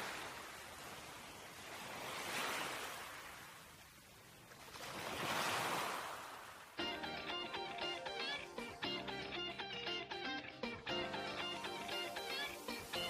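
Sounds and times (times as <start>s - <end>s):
ocean waves washing in: 0.0s - 9.4s, 10.9s - 13.0s.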